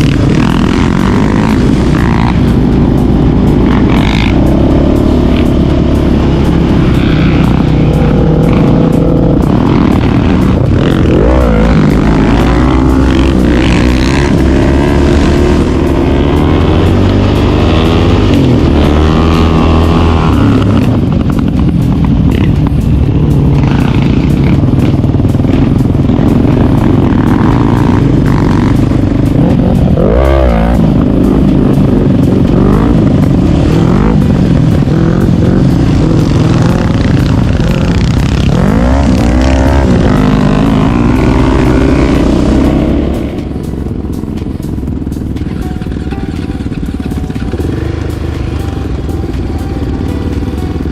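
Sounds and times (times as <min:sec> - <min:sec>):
quad engine revving: 0:00.0 - 0:50.9.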